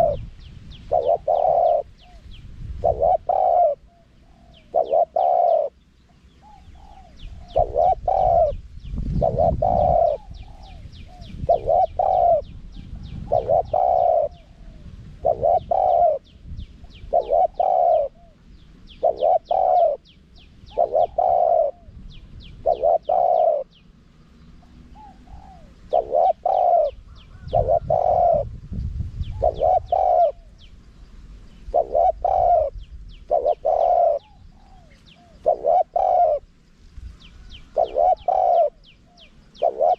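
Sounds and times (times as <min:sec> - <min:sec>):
dove cooing: 0:00.0 - 0:23.8, 0:24.5 - 0:28.6, 0:29.2 - 0:30.7, 0:31.5 - 0:36.6, 0:37.4 - 0:39.9
small birds chirping: 0:00.0 - 0:39.9.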